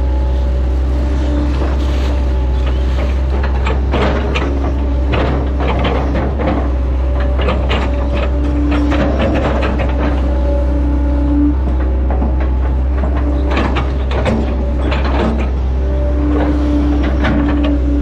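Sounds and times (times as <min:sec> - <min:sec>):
excavator diesel engine running: 0:00.0 - 0:18.0
hydraulic whine: 0:00.0 - 0:18.0
machine clanks and rattles: 0:01.2 - 0:18.0.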